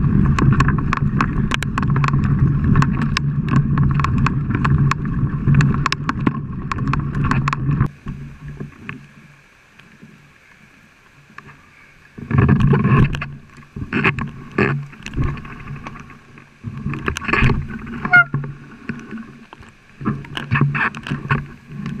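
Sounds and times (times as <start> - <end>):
bike rattles and knocks: 0.0 - 8.2, 12.2 - 22.0
bike tyre rumble on dirt: 0.0 - 10.3, 11.4 - 22.0.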